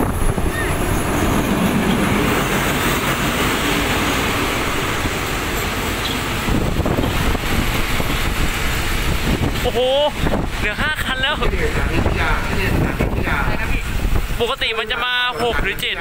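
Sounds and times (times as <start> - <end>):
train wheels rumbling on rails: 0.0 - 14.7.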